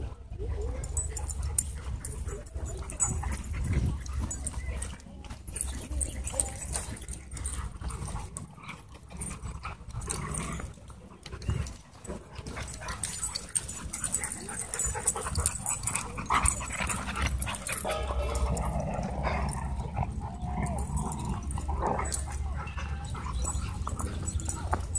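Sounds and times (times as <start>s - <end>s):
dogs whimpering and yipping: 0.0s - 24.9s.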